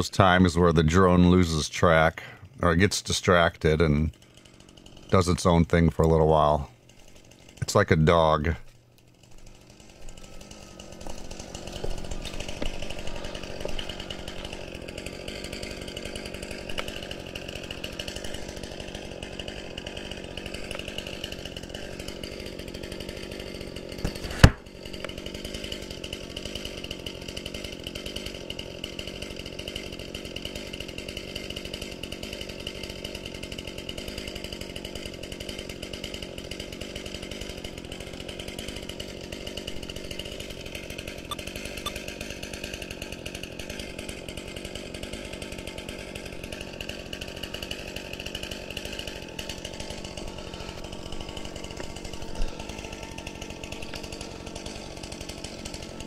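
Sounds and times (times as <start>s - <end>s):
chainsaw engine running: 0.0s - 56.0s.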